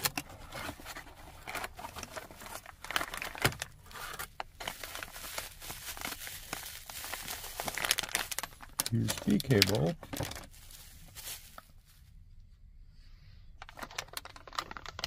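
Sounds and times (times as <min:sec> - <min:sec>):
bubble wrap crinkling: 0:00.0 - 0:12.2, 0:13.6 - 0:15.0.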